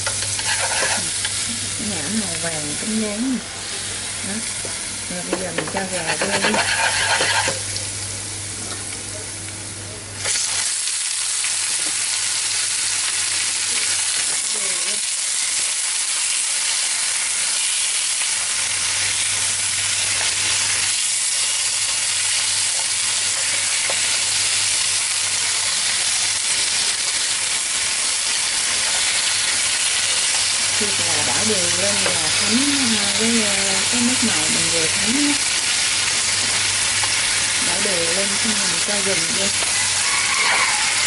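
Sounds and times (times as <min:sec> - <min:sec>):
chicken sizzling in a hot pan: 0:00.0 - 0:41.0.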